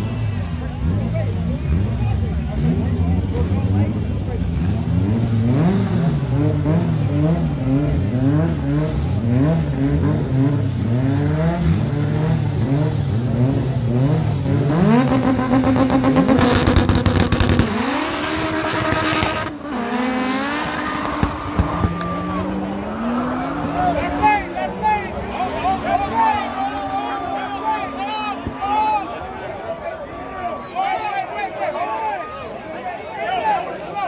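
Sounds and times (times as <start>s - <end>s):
cars accelerating hard: 0.0s - 30.6s
race car engines revving: 0.0s - 34.0s.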